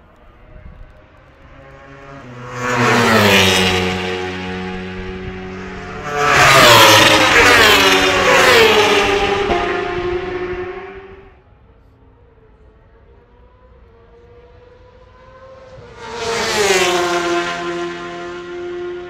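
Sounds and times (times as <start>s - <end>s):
racing engines passing by: 0.1s - 19.0s.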